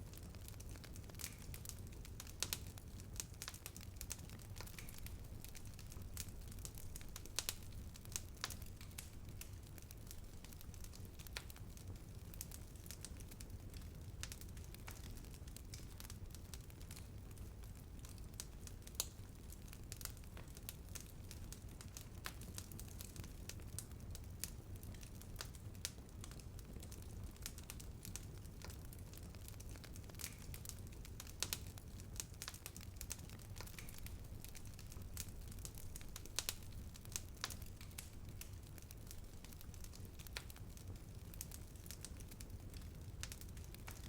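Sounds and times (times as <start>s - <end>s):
bonfire crackling and popping: 0.0s - 44.0s
low fire rumble: 0.0s - 44.0s.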